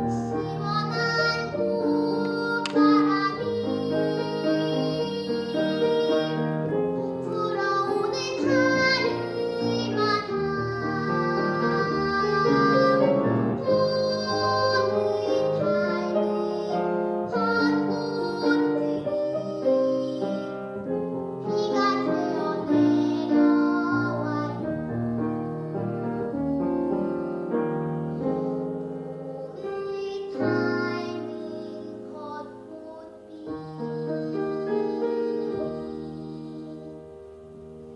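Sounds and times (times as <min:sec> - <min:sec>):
girl singing: 0:00.0 - 0:37.3
instrumental accompaniment: 0:00.0 - 0:37.9.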